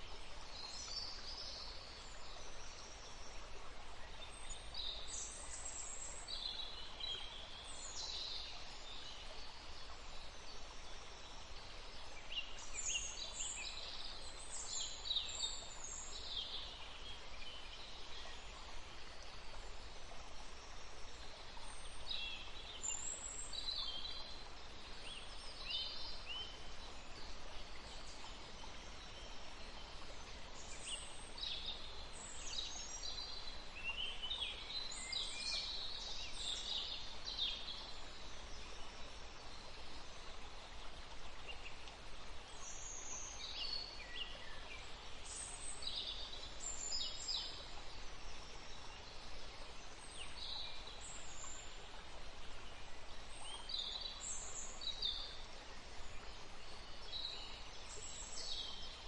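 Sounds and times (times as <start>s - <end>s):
rushing stream: 0.0s - 59.0s.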